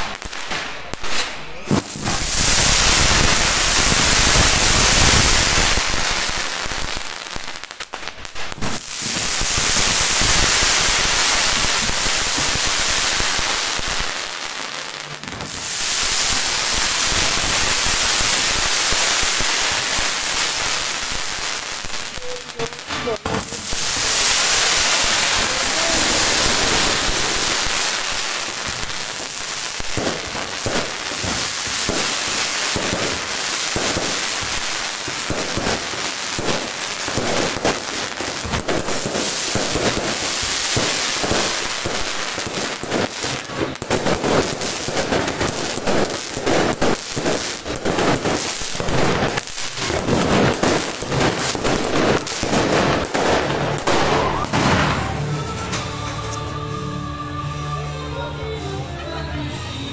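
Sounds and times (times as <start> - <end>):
fireworks popping and banging: 0.0 - 56.6
fireworks crackling hiss: 0.0 - 56.9.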